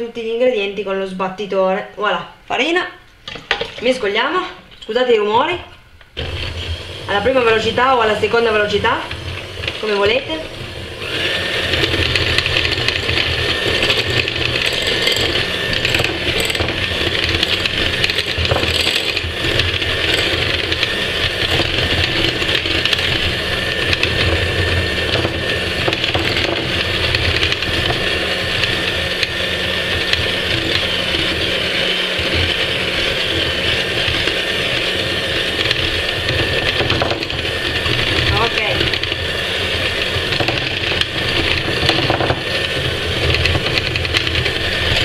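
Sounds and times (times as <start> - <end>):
electric mixer whisking batter: 6.2 - 45.0.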